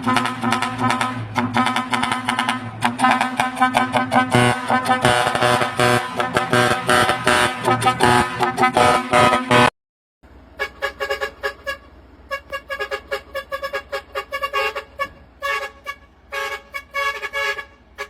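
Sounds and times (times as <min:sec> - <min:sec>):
trumpet air horn toots: 0:00.0 - 0:09.7, 0:10.6 - 0:18.0.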